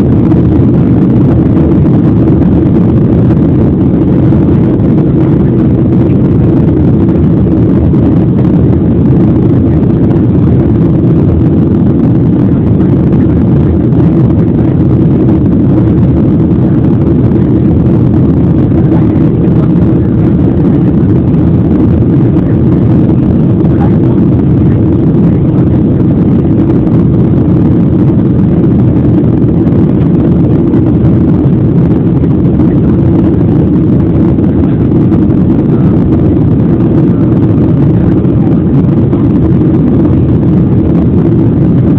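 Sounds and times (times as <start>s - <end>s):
airliner cabin jet engine rumble: 0.0s - 41.9s.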